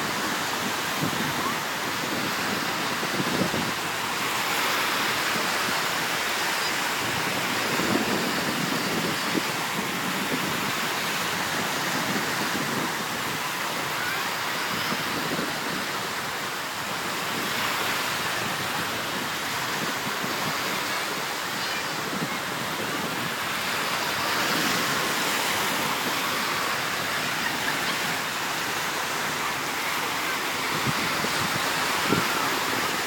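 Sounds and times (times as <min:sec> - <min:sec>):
small waves breaking on beach: 0:00.0 - 0:33.0.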